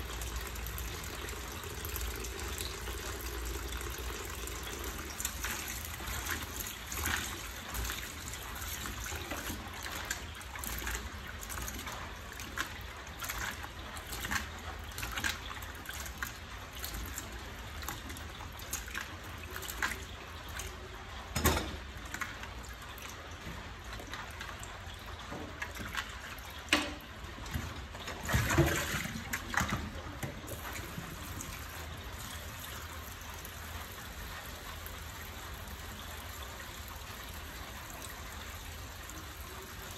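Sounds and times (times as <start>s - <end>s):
tap running into basin: 0.0s - 39.9s.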